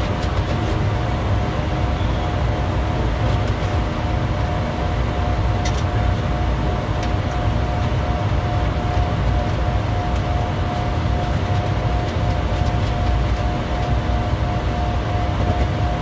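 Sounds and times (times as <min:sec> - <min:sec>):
jet cockpit engine and airflow rumble: 0:00.0 - 0:16.0
steady hum tone: 0:00.0 - 0:16.0.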